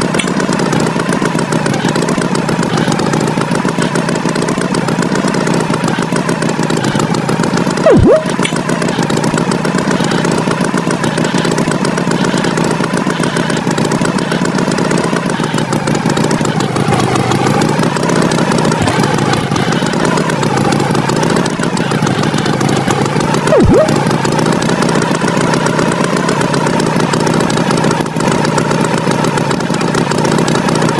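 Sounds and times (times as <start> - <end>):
cartoon tractor engine running: 0.0 - 30.9.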